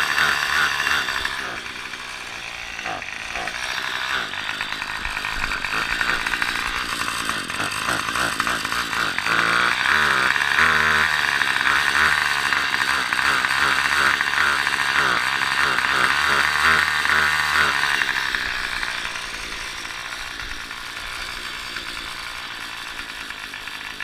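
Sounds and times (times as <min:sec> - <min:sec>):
small petrol engine running: 0:00.0 - 0:24.0.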